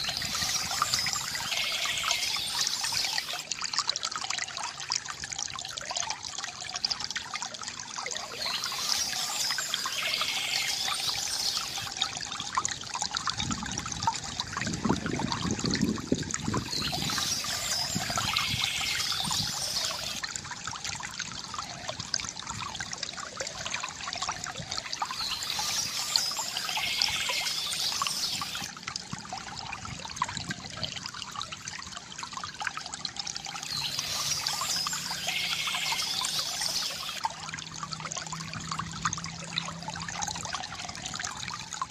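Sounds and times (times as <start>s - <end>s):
water gurgle: 0.0s - 41.9s
water trickling from fountain: 0.0s - 41.9s.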